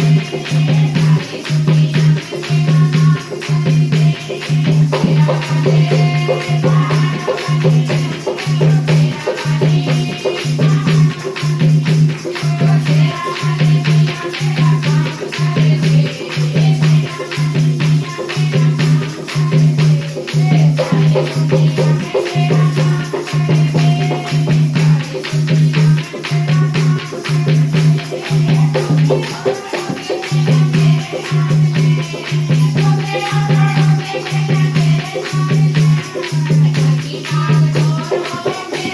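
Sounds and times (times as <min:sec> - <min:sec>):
shaker rattle percussion: 0:00.0 - 0:38.9.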